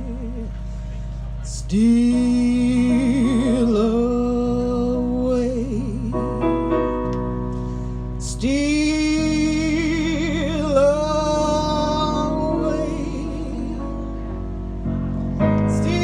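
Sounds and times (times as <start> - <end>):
person singing with vibrato: 0.0 - 7.0, 7.9 - 14.8, 15.5 - 16.0
soft keyboard chords: 0.0 - 16.0.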